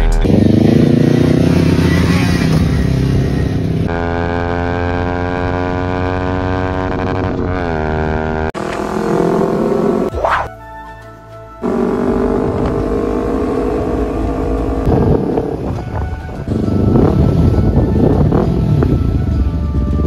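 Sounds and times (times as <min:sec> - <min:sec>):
motorcycle engine revving: 0:00.2 - 0:10.4, 0:11.6 - 0:20.0.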